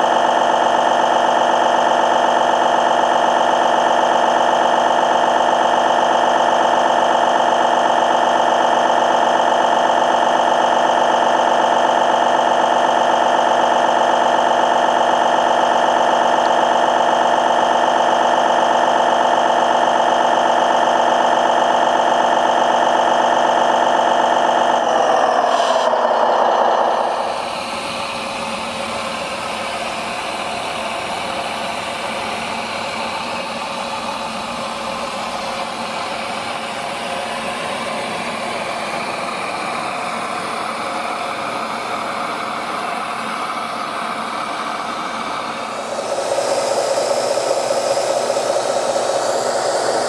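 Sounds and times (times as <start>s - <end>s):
toy truck machinery humming: 0.0s - 50.0s.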